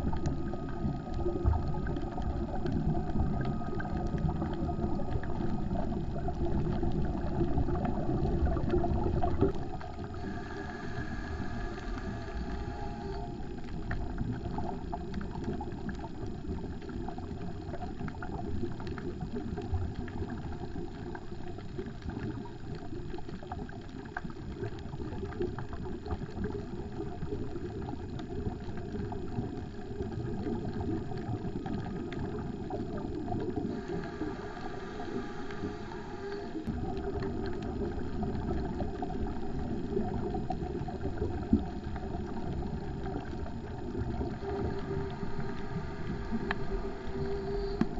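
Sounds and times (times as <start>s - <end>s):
underwater low rumble: 0.0s - 47.9s.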